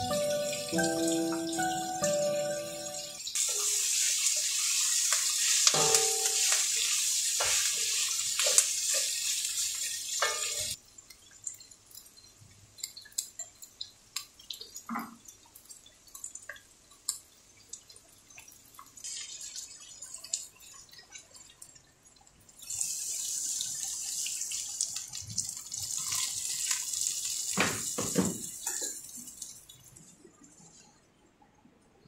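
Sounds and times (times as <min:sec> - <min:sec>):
food sizzling in oil: 0:00.0 - 0:21.6, 0:22.6 - 0:29.6.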